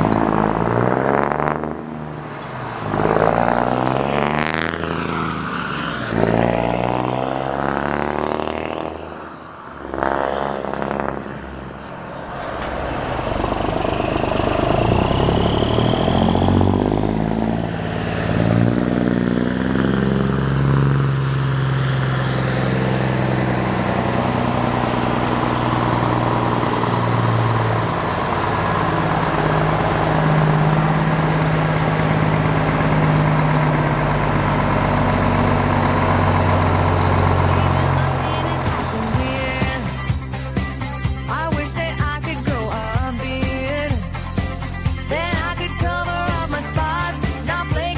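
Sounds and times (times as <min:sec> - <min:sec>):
truck engine through open exhaust: 0:00.0 - 0:47.9.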